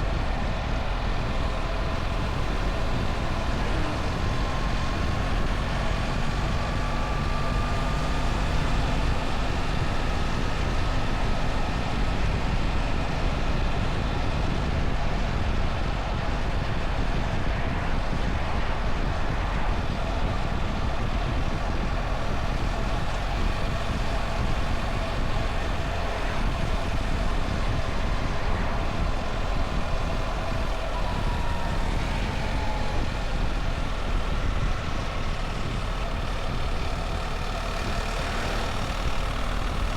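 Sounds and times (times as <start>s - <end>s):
riding wind noise: 0.0s - 39.9s.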